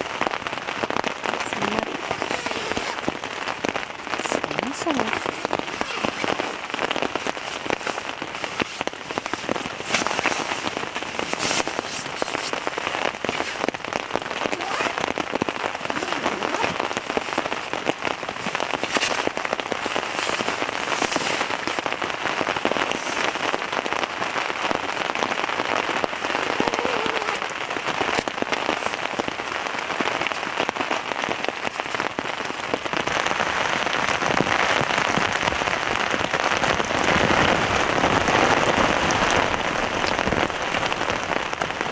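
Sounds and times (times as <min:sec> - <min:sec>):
heavy rain on tent fabric: 0:00.0 - 0:41.9.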